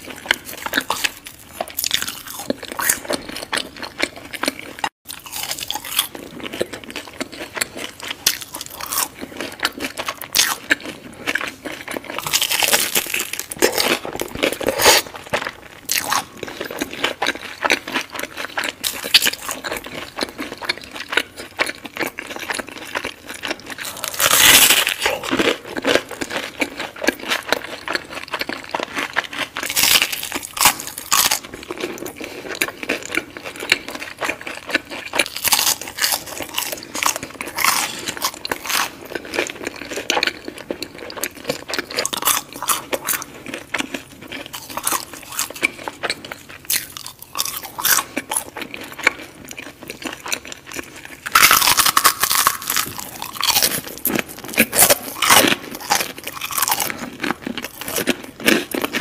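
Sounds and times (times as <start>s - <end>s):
crunching and chewing crispy food: 0.0s - 59.0s.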